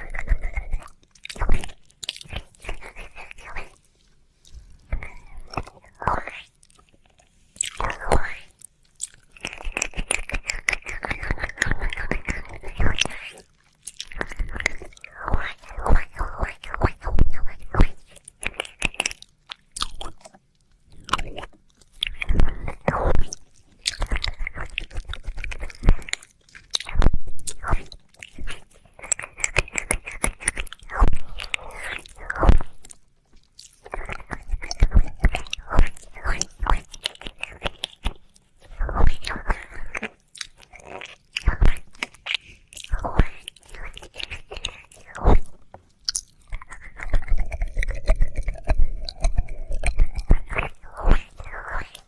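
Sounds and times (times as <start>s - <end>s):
wet mouth clicks and smacks: 0.0s - 3.8s, 4.4s - 52.0s.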